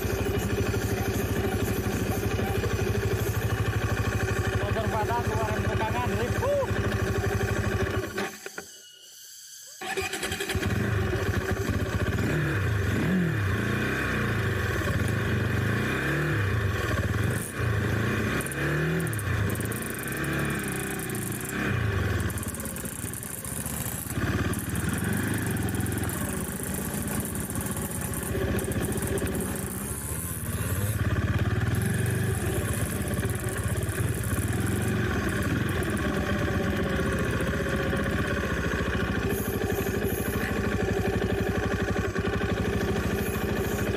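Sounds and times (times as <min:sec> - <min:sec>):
motorcycle engine revving: 0:00.0 - 0:08.6, 0:09.8 - 0:43.9.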